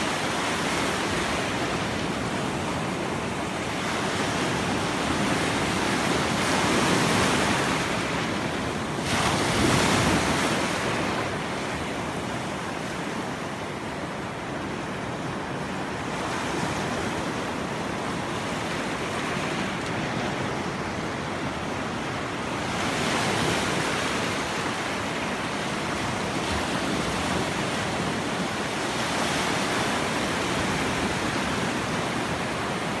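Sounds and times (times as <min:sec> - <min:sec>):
ocean surf on shore: 0:00.0 - 0:33.0
wind on microphone: 0:00.0 - 0:33.0.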